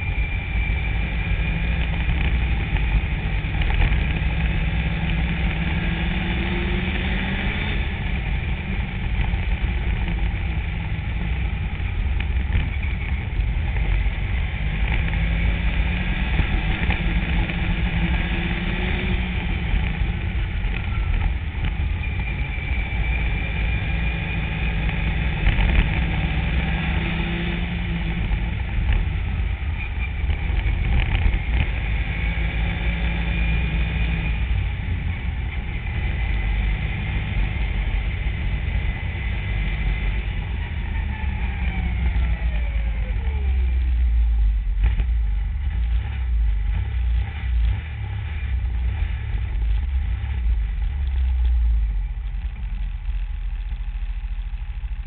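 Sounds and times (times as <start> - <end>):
deep low rumble: 0.0 - 55.0
snowmobile engine running: 0.0 - 55.0.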